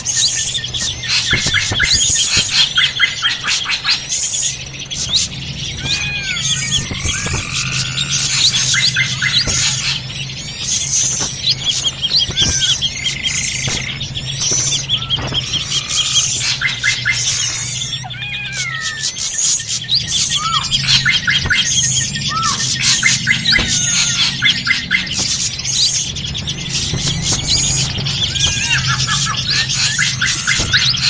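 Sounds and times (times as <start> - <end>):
chorus of other birds: 0.0 - 31.0
drongos calling: 0.0 - 31.0.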